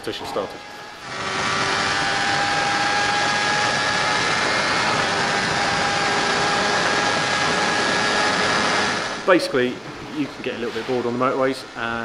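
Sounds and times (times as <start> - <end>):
motorcycle engine hum: 0.0 - 11.3
wind rush: 0.7 - 11.2.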